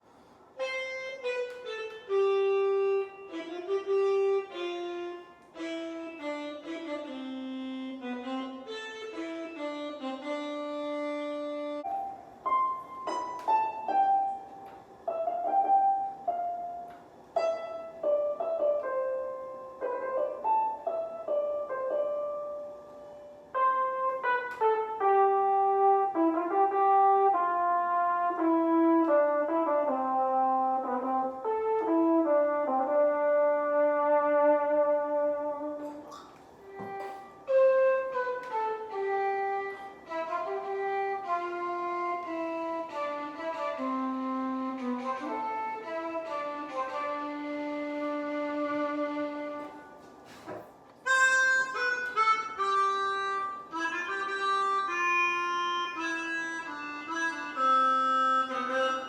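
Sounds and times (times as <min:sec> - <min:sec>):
electronic wind instrument melody: 0:00.6 - 0:14.5, 0:17.4 - 0:36.0, 0:36.6 - 0:50.1, 0:51.0 - 0:59.0.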